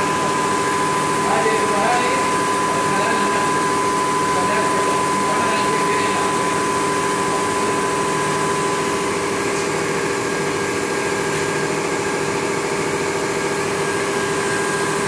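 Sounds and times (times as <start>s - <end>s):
packaging machine humming: 0.0s - 15.0s.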